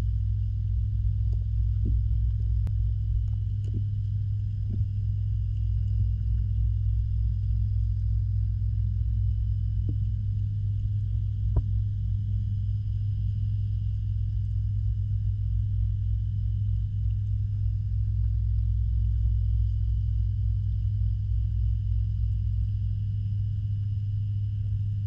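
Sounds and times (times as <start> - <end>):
underwater pump hum: 0.0 - 25.0.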